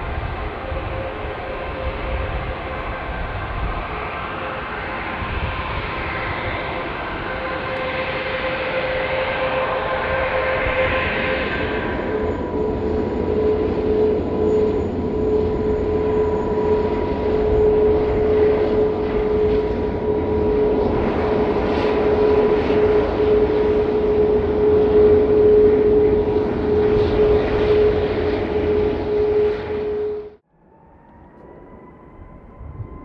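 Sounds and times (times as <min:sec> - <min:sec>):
jet engines idling: 0:00.0 - 0:33.0.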